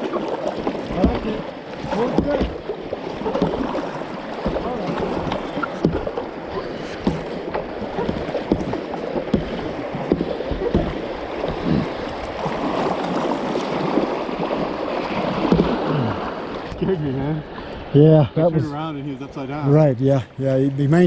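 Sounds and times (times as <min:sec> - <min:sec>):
river water splashing around kayak: 0:00.0 - 0:21.0.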